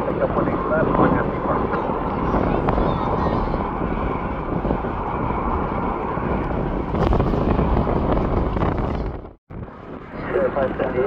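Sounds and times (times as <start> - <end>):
jet engine noise: 0.0 - 11.0
wind buffeting microphone: 0.0 - 11.0.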